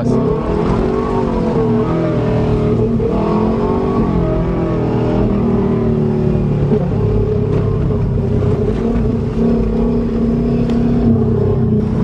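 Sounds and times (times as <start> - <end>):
car engine revving while driving: 0.0 - 12.0.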